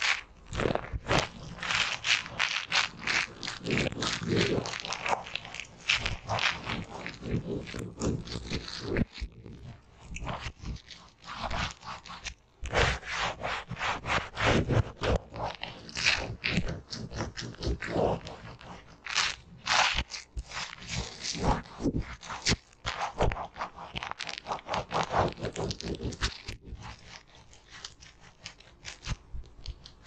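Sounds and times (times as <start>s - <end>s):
soapy sponge squishing: 0.0s - 30.0s.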